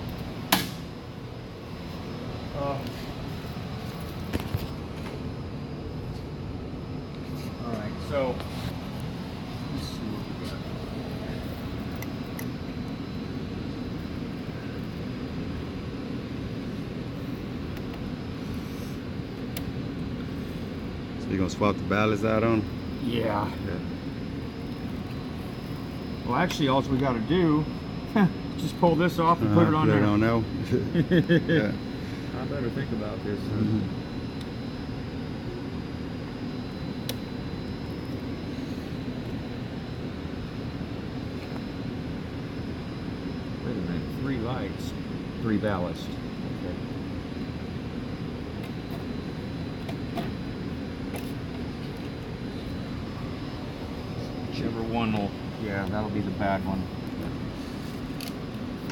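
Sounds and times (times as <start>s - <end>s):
hvac equipment rumble: 0.0s - 58.9s.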